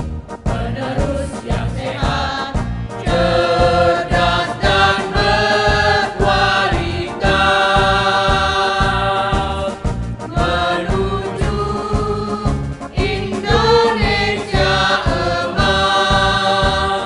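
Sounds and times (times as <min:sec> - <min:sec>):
backing track with steady beat: 0:00.0 - 0:17.0
women's choir singing in unison: 0:00.5 - 0:17.0.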